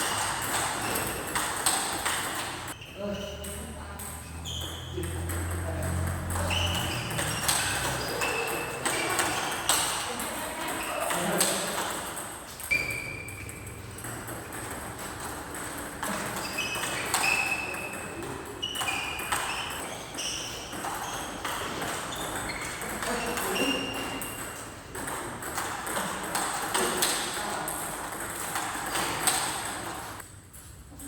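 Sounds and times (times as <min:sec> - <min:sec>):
shoes squeaking on court floor: 0:00.0 - 0:10.1, 0:10.7 - 0:27.4.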